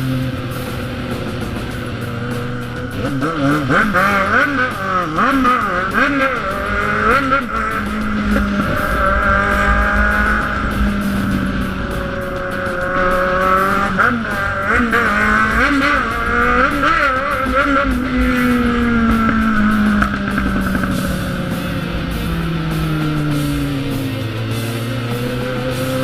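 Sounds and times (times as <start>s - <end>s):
motorcycle engine revving: 0.0s - 26.0s
wind rush: 0.0s - 26.0s.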